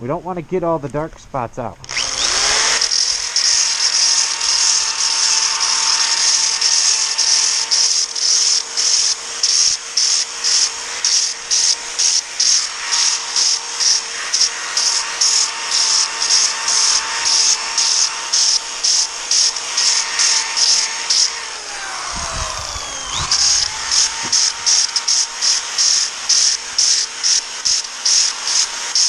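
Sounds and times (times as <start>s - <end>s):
drill motor whining: 1.8s - 29.0s
sanding disc scratching wood: 1.9s - 29.0s.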